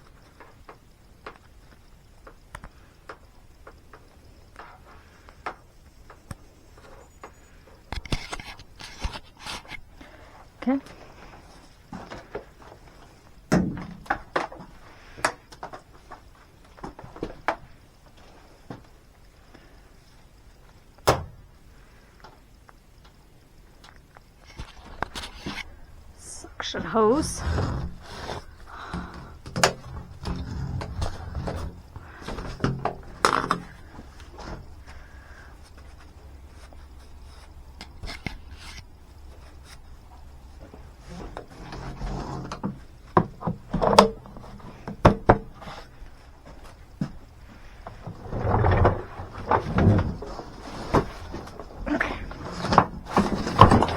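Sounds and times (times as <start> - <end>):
low steady hum: 0.0 - 53.9
objects knocking and clunking: 0.2 - 18.9, 23.8 - 36.7, 40.6 - 53.9.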